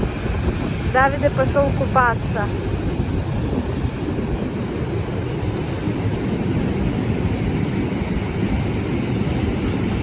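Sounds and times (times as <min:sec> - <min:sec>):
sea surf washing onto beach: 0:00.0 - 0:10.0
wind rumbling on microphone: 0:00.0 - 0:10.0.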